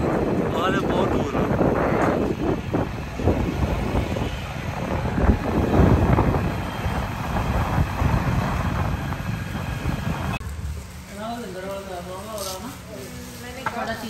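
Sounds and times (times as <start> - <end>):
road noise: 0.0 - 14.0
vehicle engine: 0.0 - 14.0.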